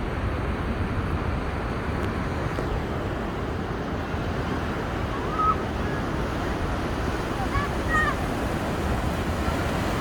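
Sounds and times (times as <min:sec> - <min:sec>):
ocean waves breaking on beach: 0:00.0 - 0:10.0.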